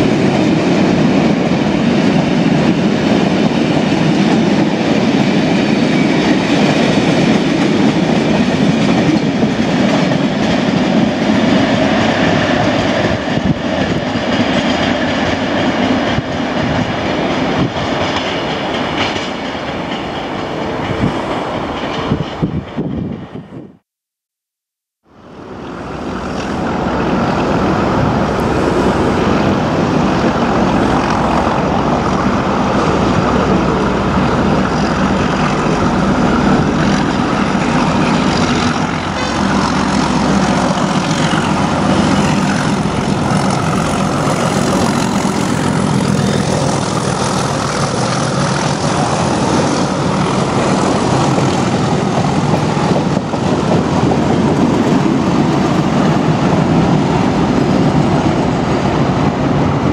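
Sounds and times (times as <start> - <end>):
diesel locomotive engine drone: 0.0 - 23.7, 25.1 - 59.9.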